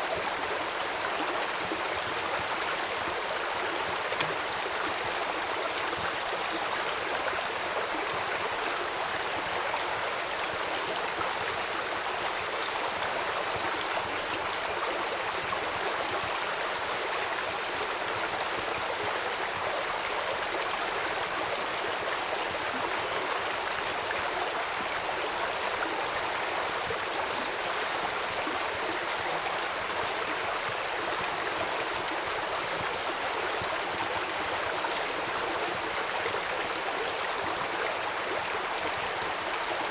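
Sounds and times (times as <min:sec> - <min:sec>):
flowing stream rushing: 0:00.0 - 0:39.9.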